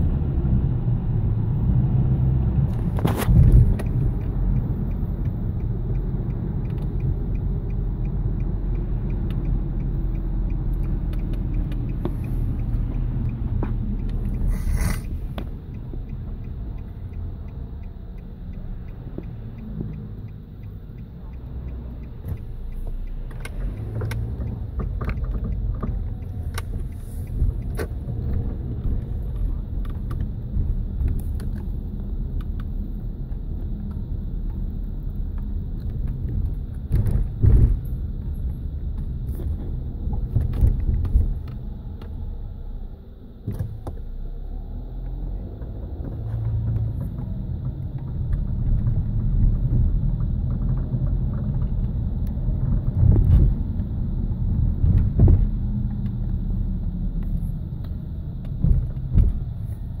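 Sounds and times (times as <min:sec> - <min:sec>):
car engine rumbling: 0:00.0 - 1:00.0
engine ticking clicks and knocks: 0:00.0 - 1:00.0.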